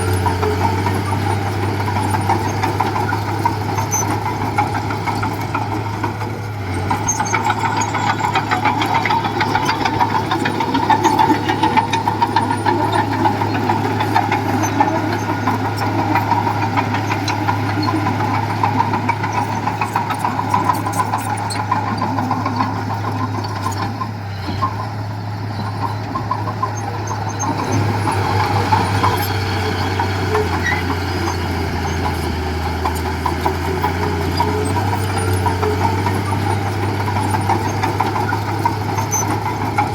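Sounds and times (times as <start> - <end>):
bulldozer diesel engine: 0.0 - 39.9
metallic rattling and clatter: 0.1 - 39.9.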